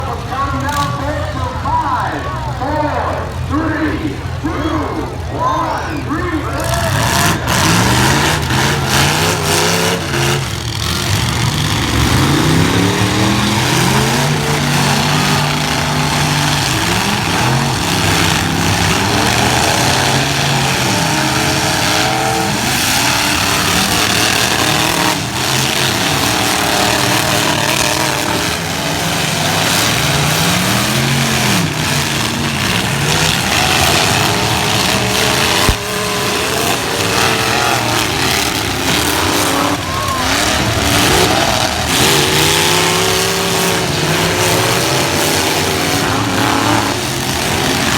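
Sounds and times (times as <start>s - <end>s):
truck engines revving: 0.0s - 47.9s
trucks crashing bangs: 0.0s - 47.9s.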